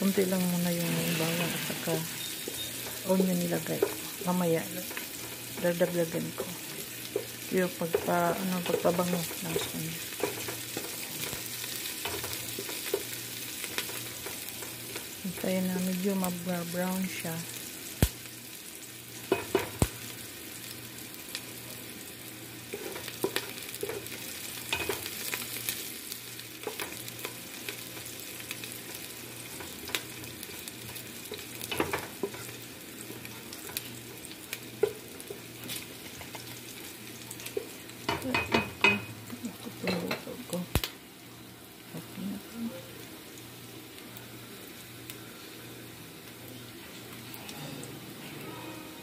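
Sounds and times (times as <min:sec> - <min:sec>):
onion and garlic sizzling in oil: 0:00.0 - 0:49.0.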